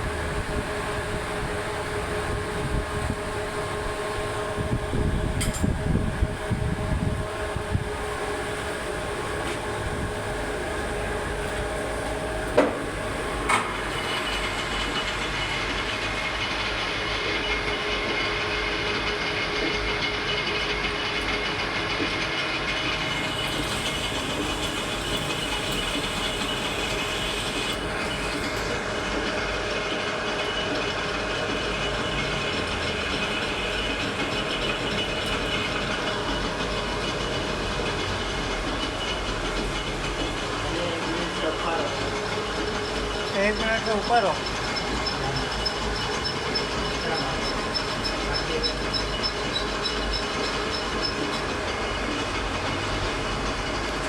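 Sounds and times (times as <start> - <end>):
machine whining hum: 0.0 - 54.0.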